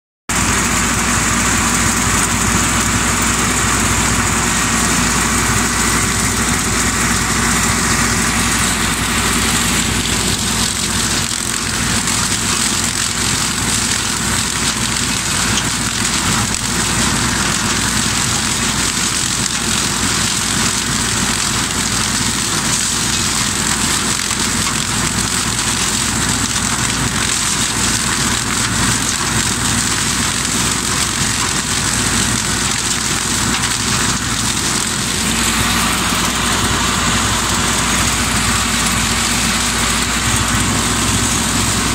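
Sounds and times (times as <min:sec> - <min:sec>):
mulcher shredding corn stalks: 0:00.3 - 0:41.9
tractor diesel engine running: 0:00.3 - 0:41.9.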